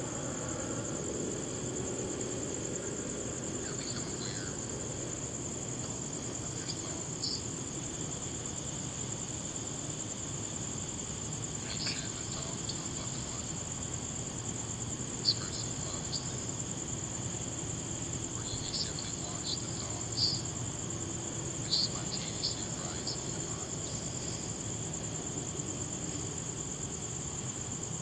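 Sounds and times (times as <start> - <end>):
crickets chirping: 0.0 - 28.0
low cricket chirps: 0.0 - 28.0.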